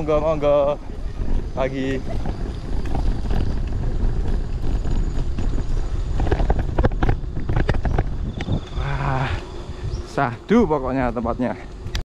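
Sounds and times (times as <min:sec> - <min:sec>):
bicycle tyre rumble: 0:00.0 - 0:12.0
wind buffeting microphone: 0:00.0 - 0:12.0.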